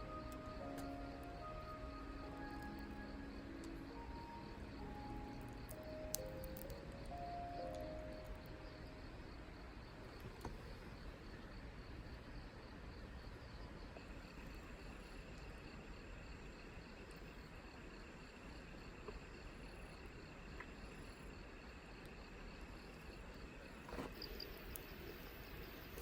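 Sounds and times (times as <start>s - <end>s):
insect trill: 0.0s - 26.0s
insects chirping: 0.0s - 26.0s
low background hiss: 0.0s - 26.0s.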